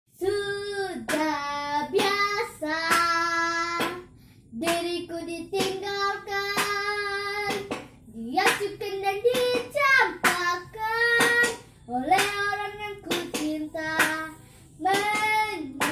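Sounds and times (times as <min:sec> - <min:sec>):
girl singing unaccompanied: 0:00.1 - 0:15.9.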